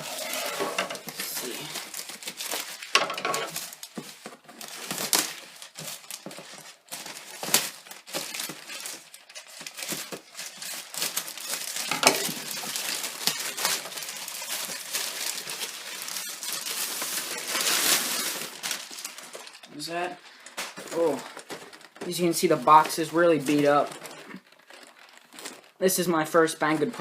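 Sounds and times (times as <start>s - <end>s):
packaging crackling: 0.0s - 27.0s
packaging crinkling and rustling: 0.0s - 27.0s.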